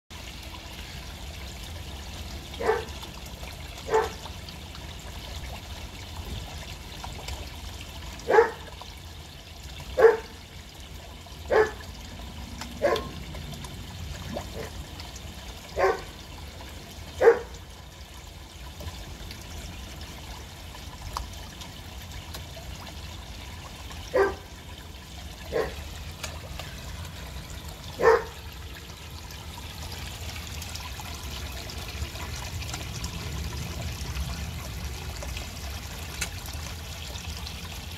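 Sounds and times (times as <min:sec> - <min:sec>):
water falling into a pond: 0:00.1 - 0:37.9.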